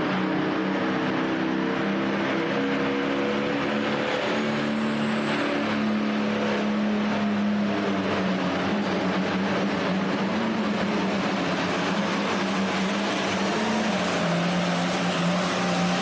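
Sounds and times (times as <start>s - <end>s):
diesel engine running hard: 0.0s - 16.0s
high turbo whine: 0.0s - 16.0s.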